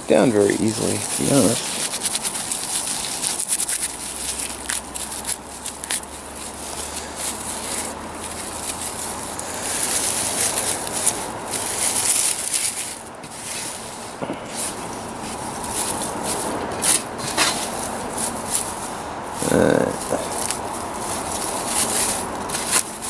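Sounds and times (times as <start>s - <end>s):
dry grass crackling and rustling: 0.0s - 23.0s.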